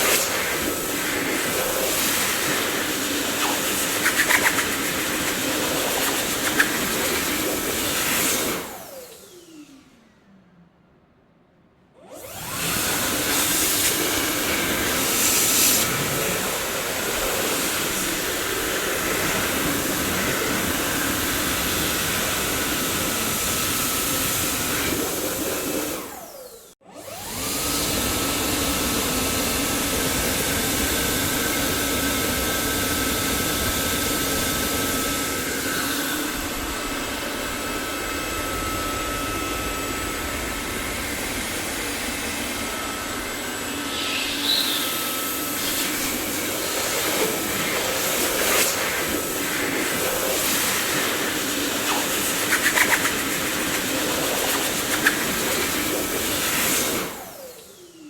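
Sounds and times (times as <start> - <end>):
vacuum cleaner whine: 0.0 - 10.5, 12.0 - 58.0.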